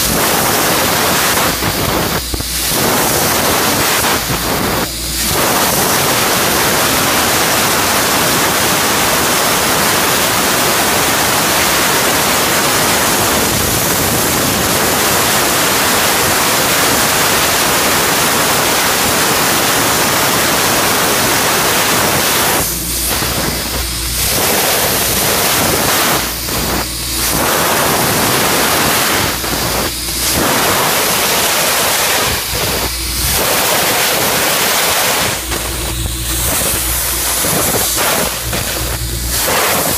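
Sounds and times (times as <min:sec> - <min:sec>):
laser cutter hissing: 0:00.0 - 0:39.9.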